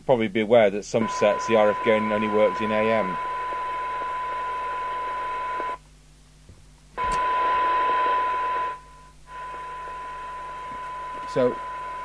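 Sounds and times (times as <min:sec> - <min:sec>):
radio hiss: 0:00.0 - 0:05.8, 0:07.0 - 0:12.0
radio test tone: 0:01.0 - 0:05.8, 0:07.0 - 0:12.0.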